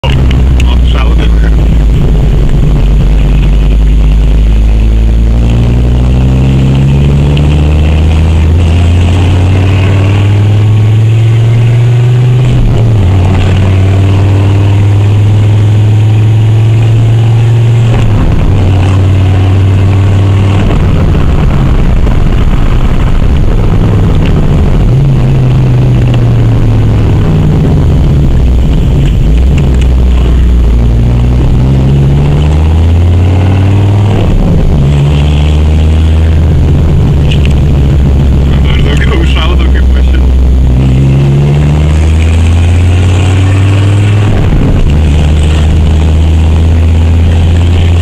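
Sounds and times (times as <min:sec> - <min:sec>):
car engine accelerating without exhaust: 0:00.0 - 0:48.0.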